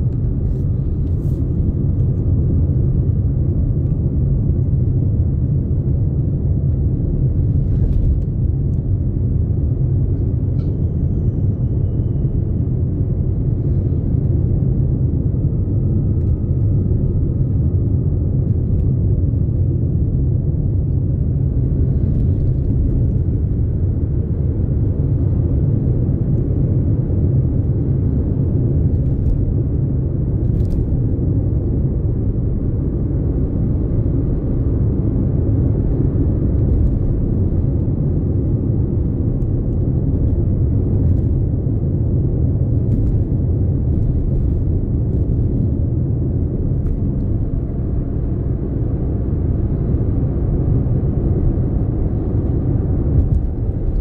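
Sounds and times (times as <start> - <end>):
car interior road rumble: 0.0 - 54.0.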